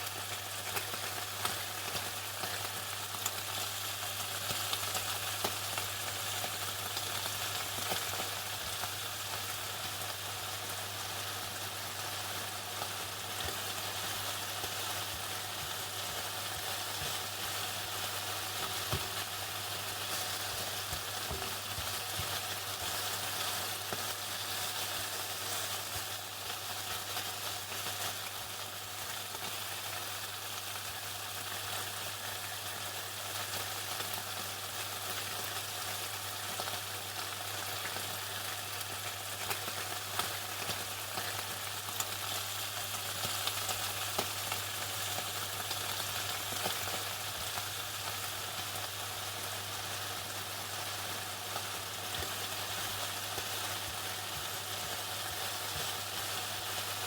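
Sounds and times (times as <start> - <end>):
chicken sizzling in hot oil: 0.0 - 57.0
oil crackling and popping: 0.0 - 57.0.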